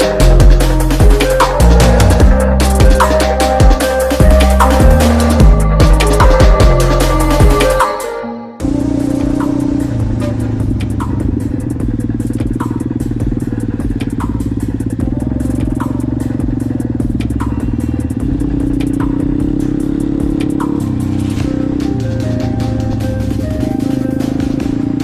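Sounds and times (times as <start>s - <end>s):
motorcycle engine running: 0.0s - 7.9s, 8.6s - 25.0s
electronic music: 0.0s - 25.0s.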